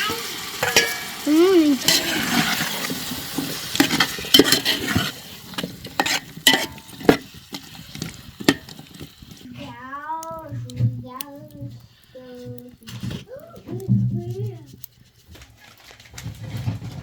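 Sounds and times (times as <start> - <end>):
food sizzling in a pot: 0.0 - 16.0
metal spoon stirring: 0.0 - 16.3
knocks and scrapes against pot: 0.1 - 17.0.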